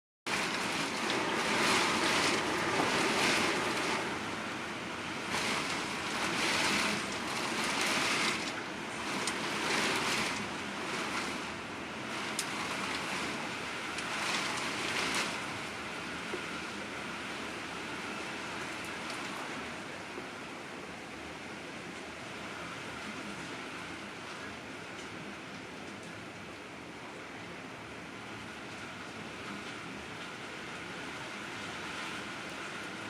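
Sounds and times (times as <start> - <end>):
gusting storm wind: 0.3 - 33.0
heavy rain: 0.3 - 33.0.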